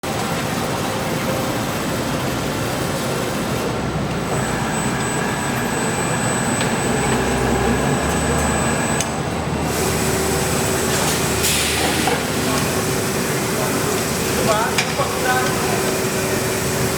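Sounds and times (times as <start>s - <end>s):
factory machinery running: 0.0s - 16.9s.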